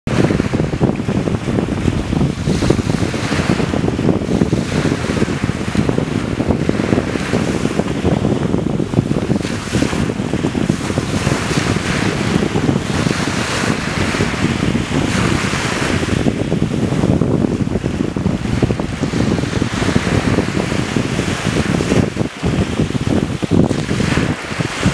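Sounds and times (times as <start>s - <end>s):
small waves breaking on sand: 0.1s - 24.9s
wind buffeting microphone: 0.1s - 24.9s.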